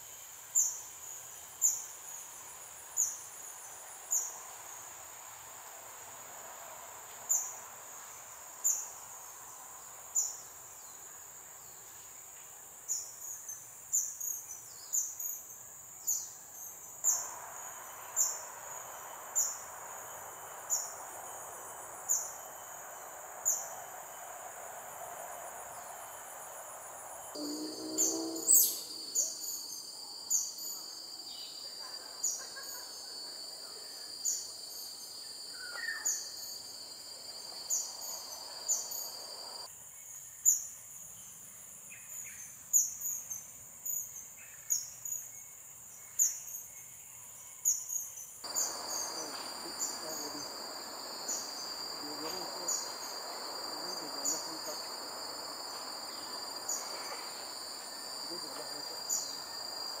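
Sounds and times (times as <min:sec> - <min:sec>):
high insect drone: 0:00.0 - 0:39.8, 0:42.2 - 1:00.0.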